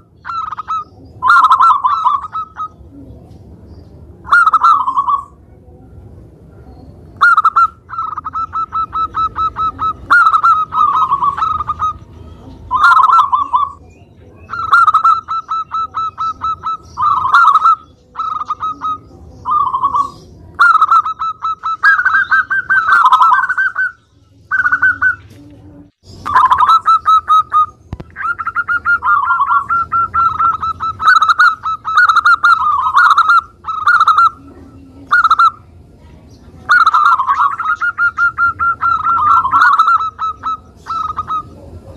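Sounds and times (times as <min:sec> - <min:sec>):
dove cooing: 0:00.0 - 0:03.4, 0:04.2 - 0:05.4, 0:06.5 - 0:35.9, 0:36.6 - 0:41.9.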